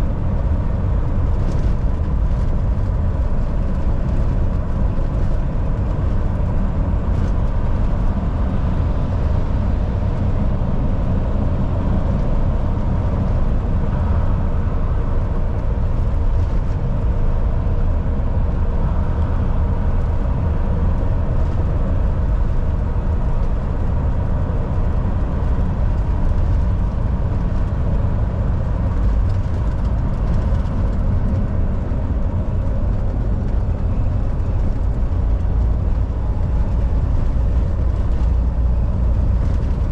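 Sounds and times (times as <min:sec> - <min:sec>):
diesel engine drone: 0:00.0 - 0:39.9
road and tyre noise: 0:00.0 - 0:39.9.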